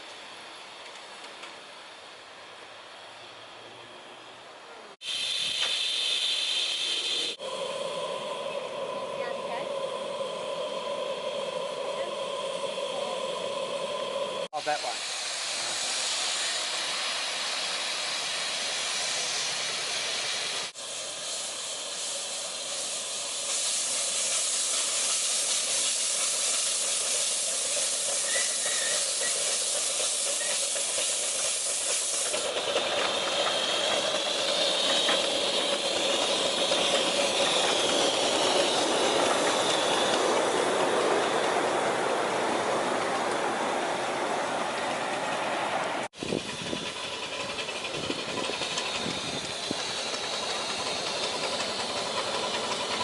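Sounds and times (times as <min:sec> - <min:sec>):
miniature steam train hissing: 0:00.0 - 0:53.0
train running on track: 0:00.0 - 0:53.0.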